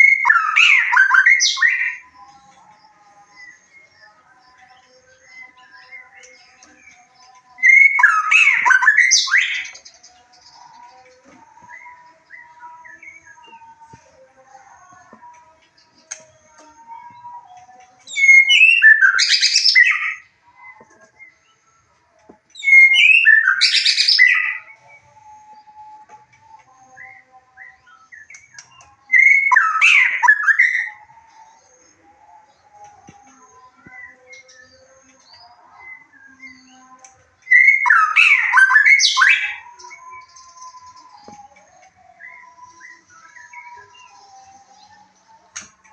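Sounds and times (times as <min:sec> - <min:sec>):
soft whistled bird notes: 0:00.0 - 0:45.9
songbird singing: 0:00.0 - 0:45.9.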